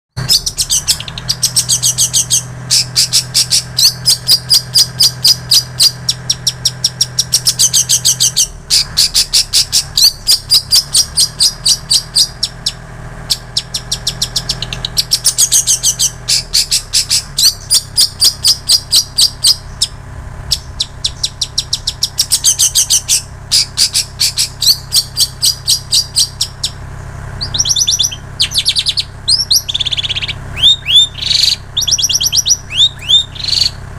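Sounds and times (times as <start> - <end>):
bird singing high chirps: 0.2 - 33.8
squeaky gliding bird notes: 0.2 - 33.9.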